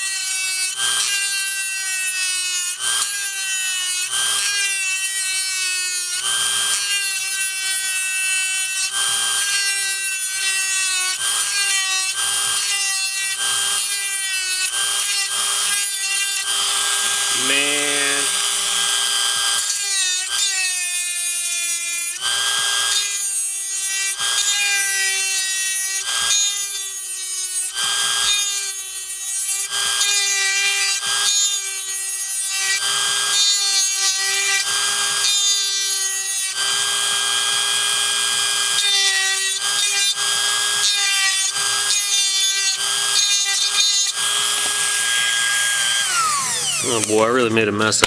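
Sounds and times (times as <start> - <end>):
cutter rasping on metal: 0.0 - 48.0
rotary tool whining: 0.0 - 48.0.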